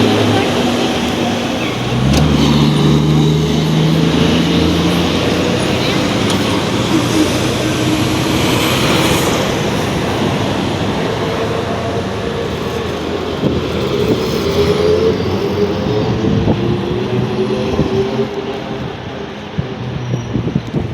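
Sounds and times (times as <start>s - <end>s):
road and body noise: 0.0s - 20.9s
trolleybus motor whine: 0.0s - 20.9s.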